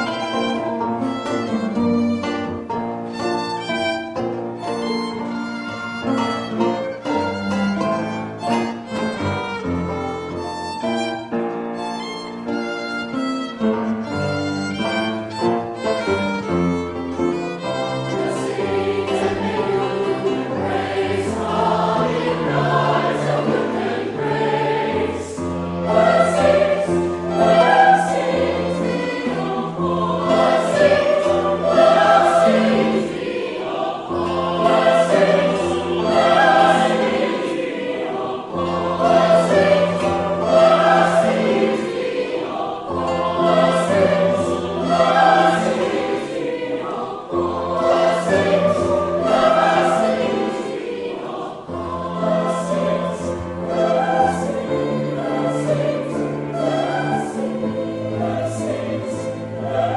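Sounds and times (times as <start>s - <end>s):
mixed choir singing: 0.0s - 4.1s, 14.0s - 59.9s.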